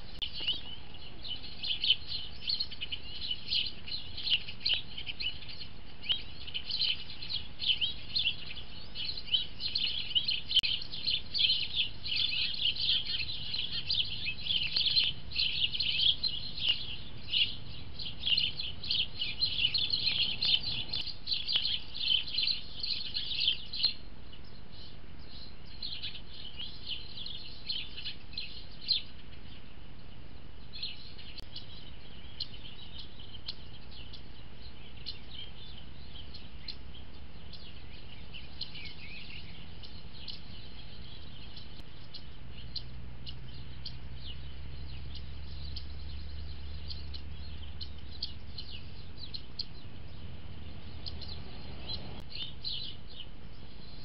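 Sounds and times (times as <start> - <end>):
faint steady hiss: 0.0 - 54.0
small birds chirping: 0.0 - 54.0.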